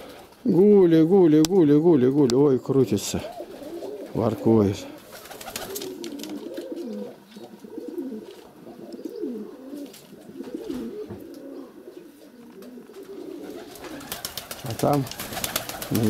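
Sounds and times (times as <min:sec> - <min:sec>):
pigeons cooing: 0:02.6 - 0:16.0.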